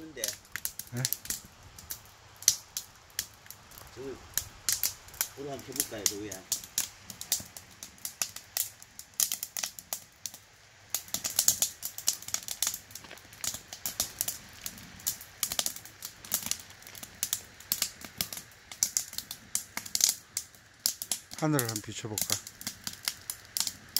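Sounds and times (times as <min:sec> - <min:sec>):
campfire crackling: 0:00.0 - 0:23.9.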